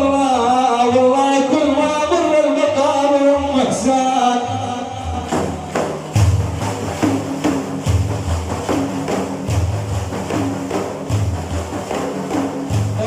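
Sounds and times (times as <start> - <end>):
frame drums with jingles: 0.0 - 13.0.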